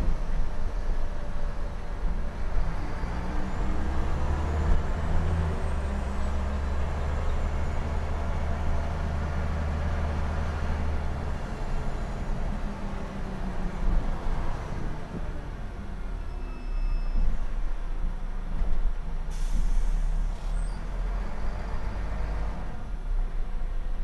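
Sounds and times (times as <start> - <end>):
bus diesel engine drone: 0.0 - 24.0
road noise: 0.0 - 24.0.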